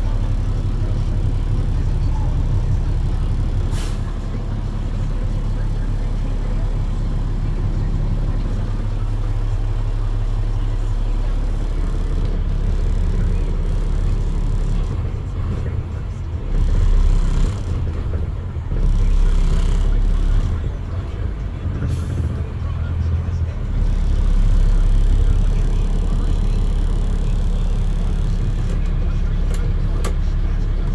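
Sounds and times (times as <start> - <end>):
garbage truck diesel engine running: 0.0 - 30.9.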